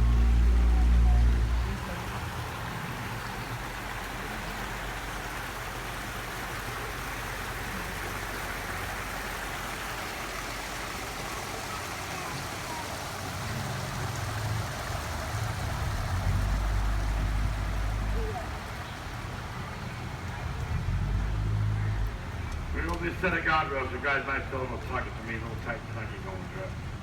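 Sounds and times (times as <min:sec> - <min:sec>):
low boat motor hum: 0:00.0 - 0:27.0.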